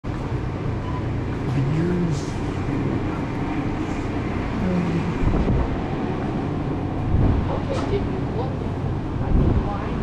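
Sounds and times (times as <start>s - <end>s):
supermarket background rumble: 0.1s - 10.0s.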